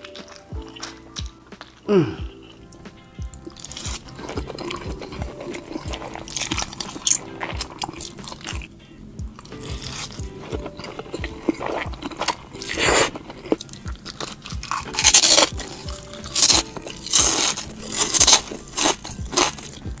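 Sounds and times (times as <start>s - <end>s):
person chewing noodles: 0.0s - 20.0s
slurping and smacking: 0.0s - 20.0s.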